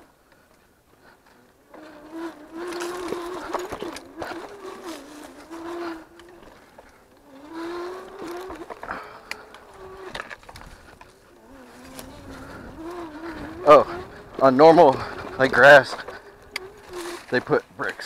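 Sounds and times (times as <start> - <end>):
bike clattering on rough trail: 0.2 - 18.0
electric bike motor whining: 1.0 - 17.5.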